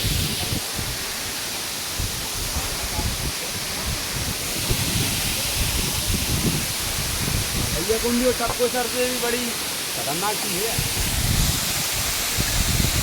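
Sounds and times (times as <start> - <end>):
wind gusting on microphone: 0.0 - 9.9, 10.6 - 13.0
falling water rushing: 0.0 - 13.0.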